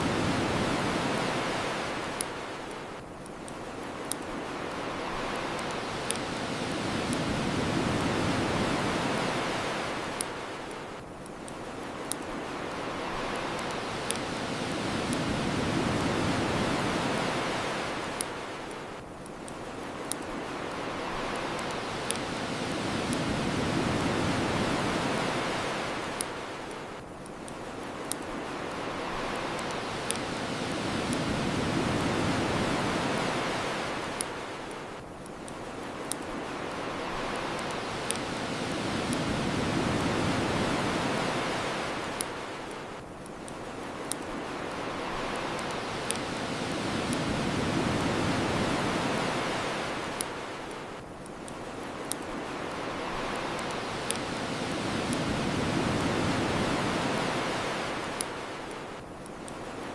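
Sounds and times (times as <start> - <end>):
bonfire crackling and popping: 0.0 - 59.9
ocean surf washing ashore: 0.0 - 59.9.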